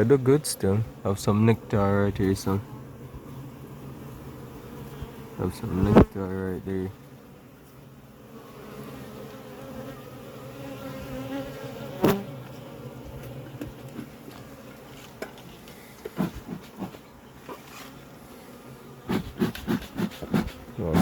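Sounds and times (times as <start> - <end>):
bees buzzing in hive: 0.0 - 21.0.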